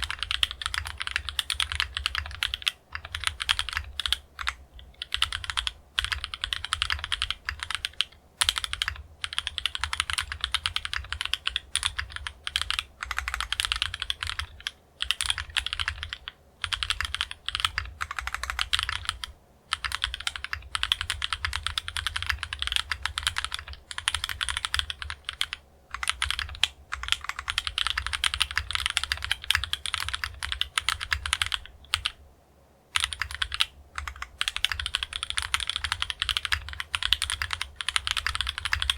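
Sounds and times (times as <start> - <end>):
mechanical keyboard typing: 0.0 - 32.2, 32.9 - 38.9.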